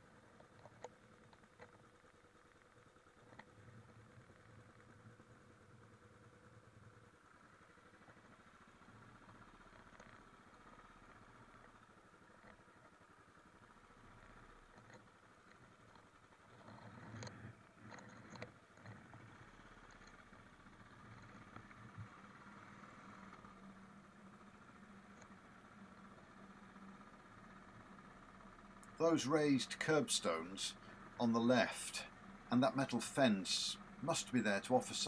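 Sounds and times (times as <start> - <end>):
muffled motorcycle engine running: 0.0 - 35.0.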